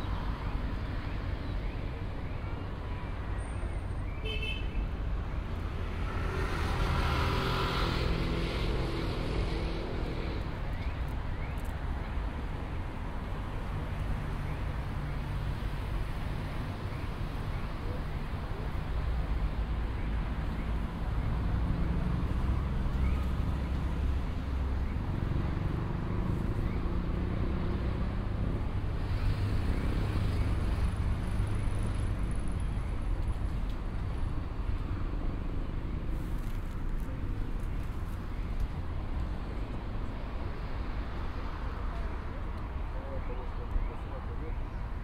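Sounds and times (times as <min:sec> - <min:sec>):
low rumble of traffic: 0:00.0 - 0:45.0.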